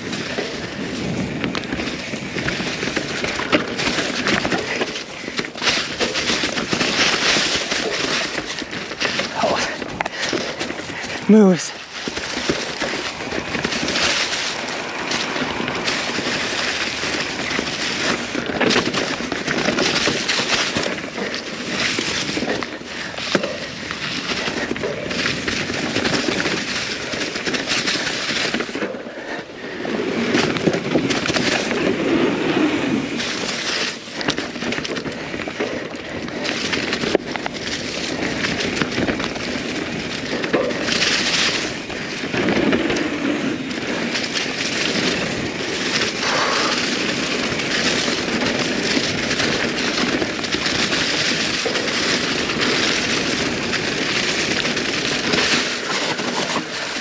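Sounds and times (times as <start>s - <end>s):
bike rattling over rough ground: 0.0s - 57.0s
tyre noise on dirt: 0.0s - 57.0s.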